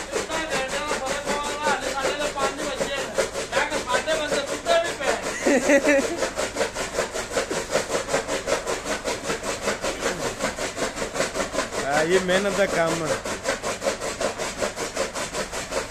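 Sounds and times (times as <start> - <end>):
chaff cutter chopping fodder: 0.0 - 15.9.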